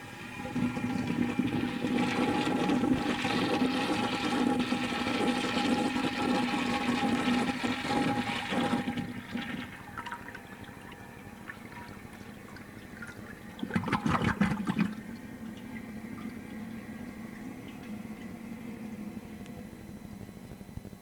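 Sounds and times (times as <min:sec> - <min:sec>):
water trickling: 0:00.0 - 0:19.3
toilet flushing: 0:00.0 - 0:19.4.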